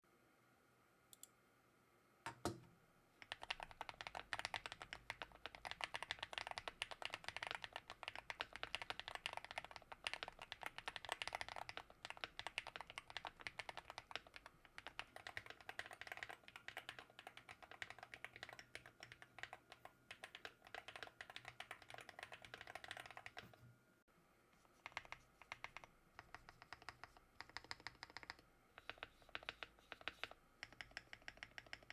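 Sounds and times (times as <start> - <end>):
keyboard typing: 3.2 - 23.6, 24.7 - 31.9.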